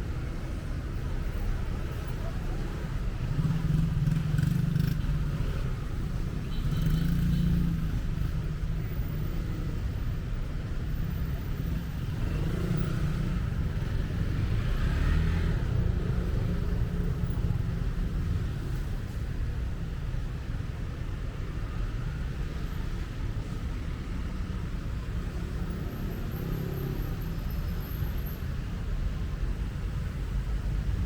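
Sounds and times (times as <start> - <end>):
cars and motorbikes passing: 0.0 - 31.0.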